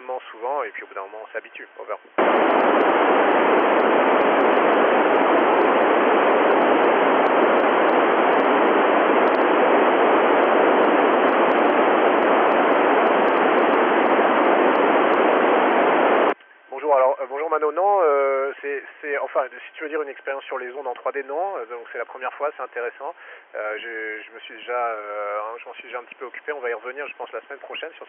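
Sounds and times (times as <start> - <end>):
radio receiver hiss: 1.8 - 28.0.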